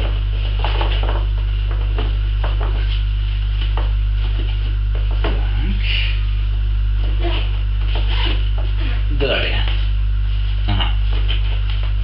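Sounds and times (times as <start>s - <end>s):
loud electrical hum: 0.0s - 12.0s.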